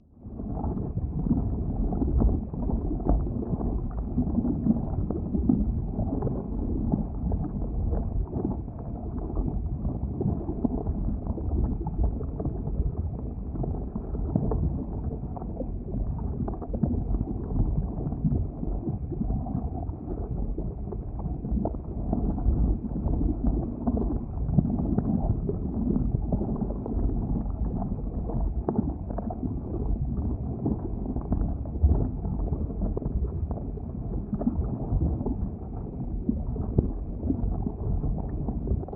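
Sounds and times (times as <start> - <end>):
lava bubbling and gurgling: 0.0 - 38.9.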